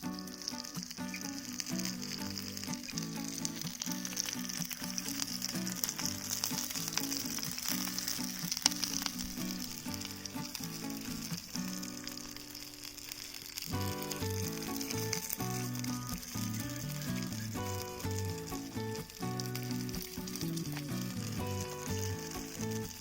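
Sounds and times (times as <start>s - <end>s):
background music: 0.0s - 23.0s
food sizzling in a pan: 0.0s - 23.0s.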